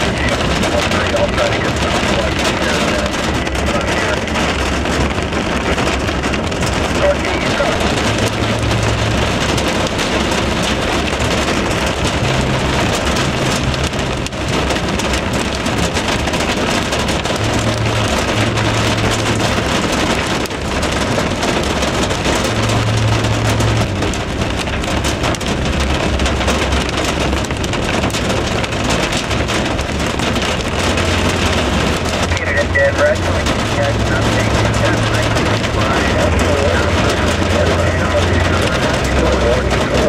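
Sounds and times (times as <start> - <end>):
heavy rain pouring: 0.0 - 40.0
low rumble: 0.0 - 40.0.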